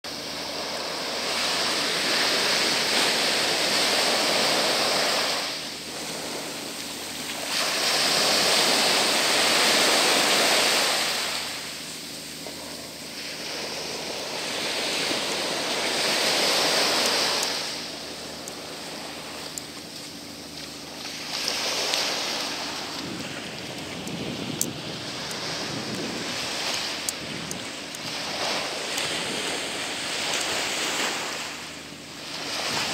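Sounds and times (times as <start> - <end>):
surf washing onto beach: 0.1 - 32.9.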